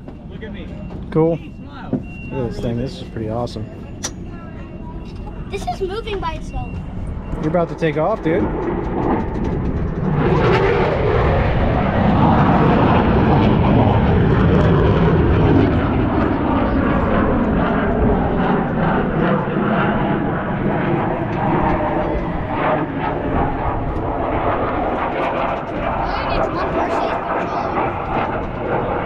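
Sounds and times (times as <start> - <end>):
jet aircraft roar overhead: 0.0 - 29.0.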